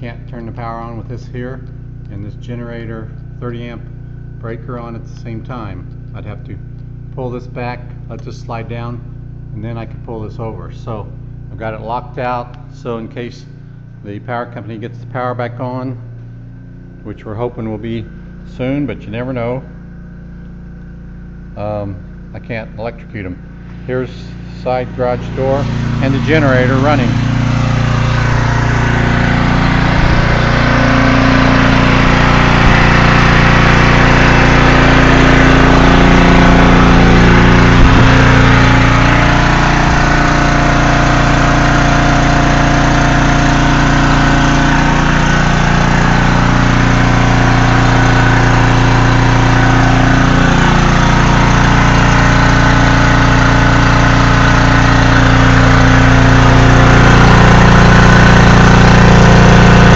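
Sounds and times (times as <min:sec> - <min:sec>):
generator engine running: 0:00.0 - 0:59.9.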